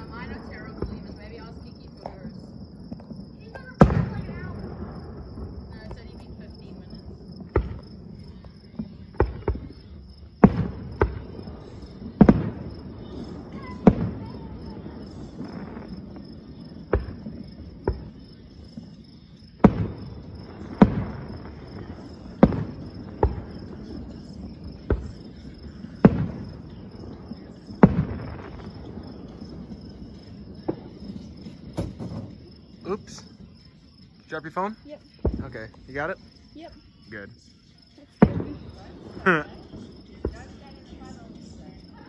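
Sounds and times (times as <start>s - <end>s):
distant fireworks bangs: 0.0s - 36.7s, 38.1s - 42.0s
crickets chirping: 0.0s - 42.0s.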